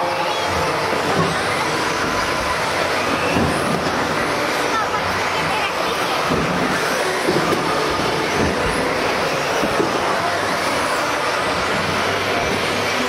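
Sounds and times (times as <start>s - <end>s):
radio-controlled cars racing: 0.0s - 13.0s.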